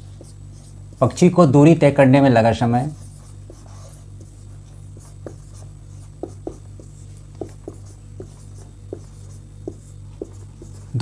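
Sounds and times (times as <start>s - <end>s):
marker pen writing on whiteboard: 0.0s - 1.2s, 2.9s - 11.0s
steady low hum: 0.0s - 11.0s.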